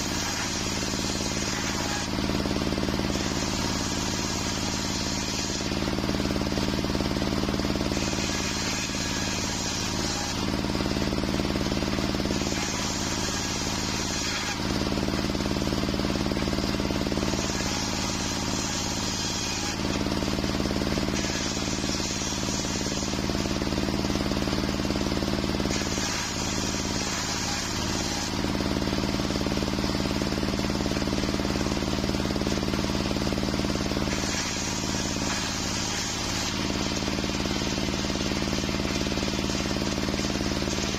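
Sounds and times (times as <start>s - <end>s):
saw blade cutting wood: 0.0s - 40.9s
table saw running: 0.0s - 40.9s.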